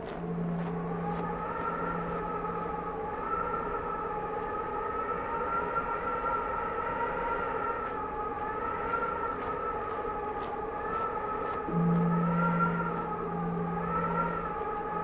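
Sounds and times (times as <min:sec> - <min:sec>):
low hum: 0:00.0 - 0:15.0
wind howling and whistling: 0:00.0 - 0:15.0.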